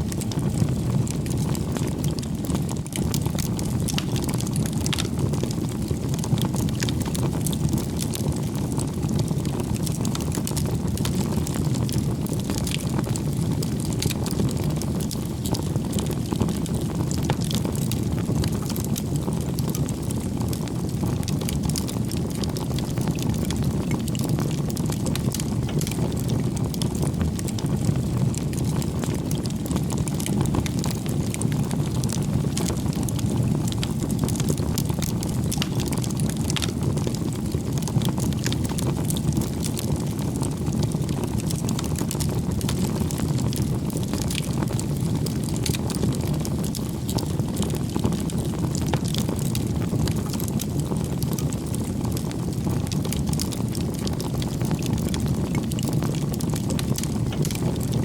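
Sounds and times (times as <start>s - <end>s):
fire crackling and snapping: 0.0s - 58.0s
low roar of flames: 0.0s - 58.0s.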